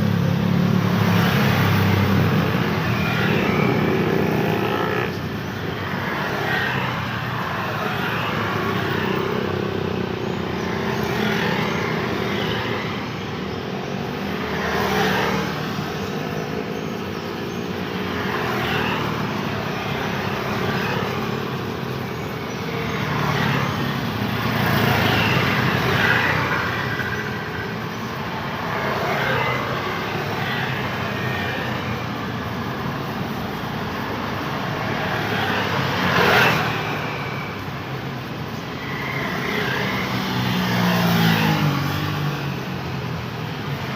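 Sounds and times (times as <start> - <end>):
cars and motorbikes passing: 0.0 - 43.9
hum of engines and tyres: 0.0 - 43.9.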